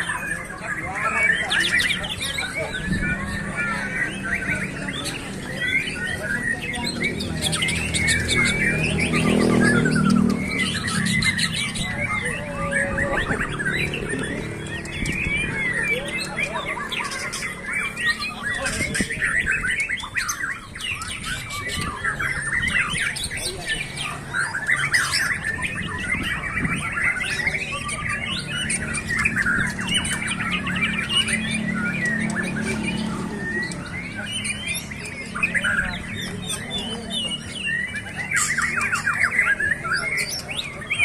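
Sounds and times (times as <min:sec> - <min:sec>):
birds singing in chorus: 0:00.0 - 0:41.0.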